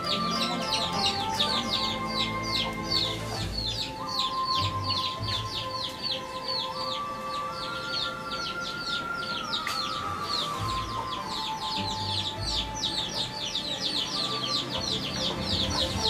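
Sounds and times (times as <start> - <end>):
birds chirping rapidly: 0.0 - 16.0.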